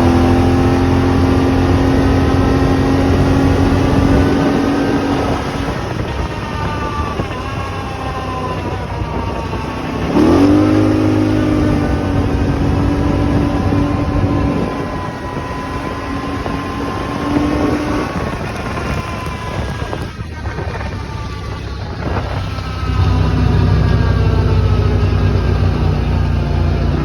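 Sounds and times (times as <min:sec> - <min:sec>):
atv engine revving: 0:00.0 - 0:27.0
thin whine: 0:00.0 - 0:27.0.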